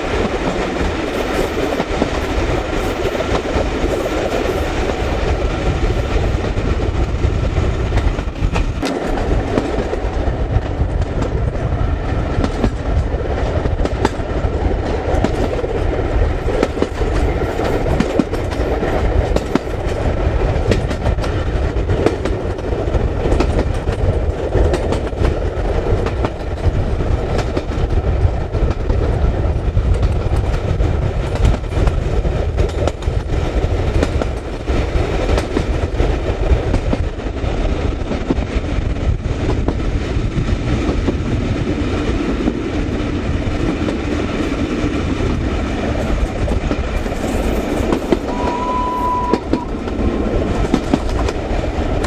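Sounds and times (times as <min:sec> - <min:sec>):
train wheels rumbling on rails: 0:00.0 - 0:52.0
wind buffeting microphone: 0:00.0 - 0:52.0.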